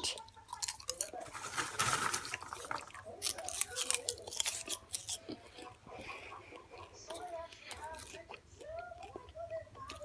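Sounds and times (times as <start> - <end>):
person chewing popcorn: 0.0 - 10.0.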